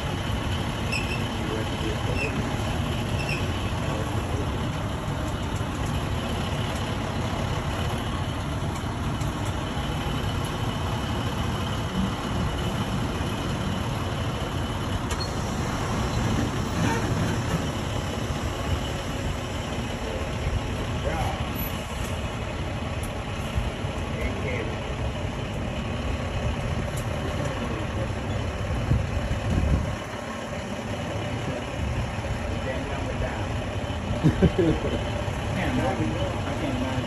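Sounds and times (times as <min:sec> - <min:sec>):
diesel truck engine running: 0:00.0 - 0:37.0.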